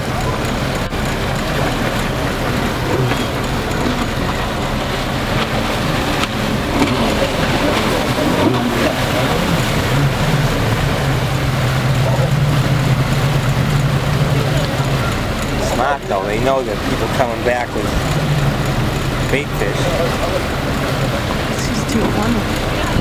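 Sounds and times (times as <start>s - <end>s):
boat engine humming: 0.0s - 23.0s
wash of noise: 0.0s - 23.0s.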